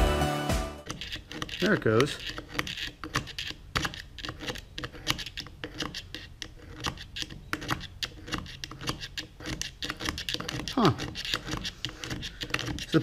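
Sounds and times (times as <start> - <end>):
screwdriver scraping metal gears: 0.8 - 13.0.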